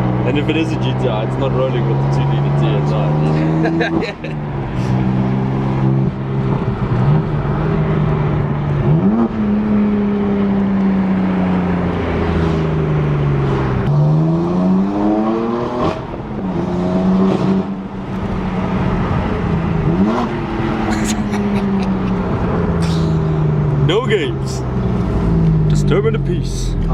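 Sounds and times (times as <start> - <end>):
car engine revving and accelerating: 0.0 - 26.9.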